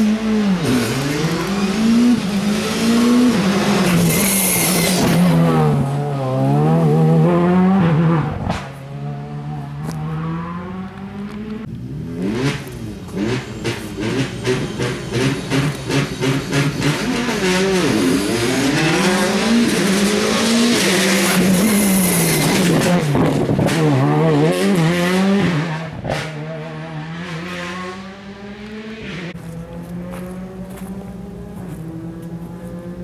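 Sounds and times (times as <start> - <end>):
rally car engine accelerating: 0.0 - 33.0.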